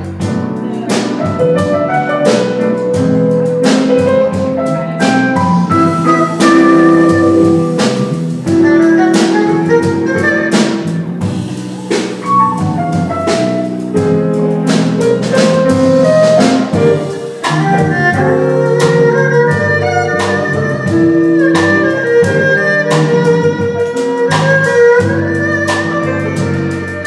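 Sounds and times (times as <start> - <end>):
instrumental jazz music: 0.0 - 27.0.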